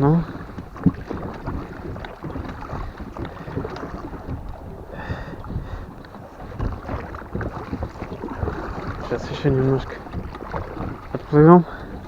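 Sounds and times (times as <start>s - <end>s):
water noise of rowing boat: 0.0s - 12.0s
wind buffeting microphone: 0.0s - 12.0s.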